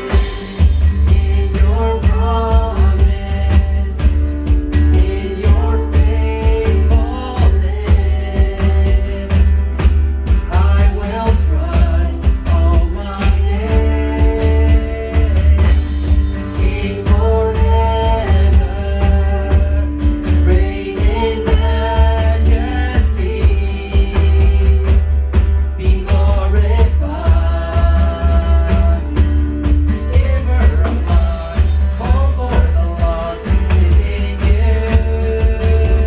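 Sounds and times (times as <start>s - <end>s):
person singing worship song: 0.0s - 29.4s, 30.0s - 36.0s
band with heavy bass: 0.0s - 36.0s
steady drum beat: 0.0s - 36.0s.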